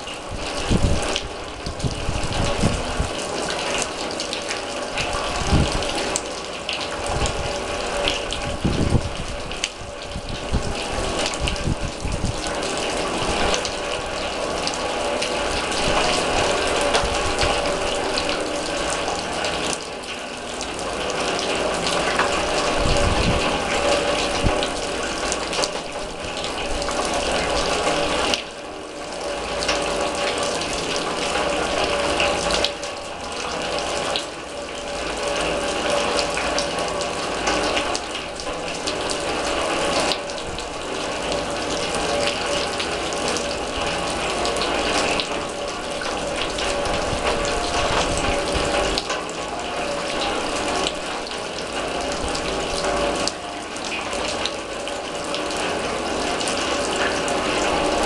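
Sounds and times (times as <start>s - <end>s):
rain pattering on steel drum: 0.0s - 58.0s.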